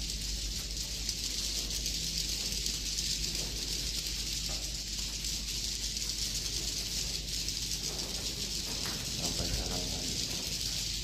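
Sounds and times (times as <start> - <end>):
swiftlets chittering and clicking: 0.0 - 11.0.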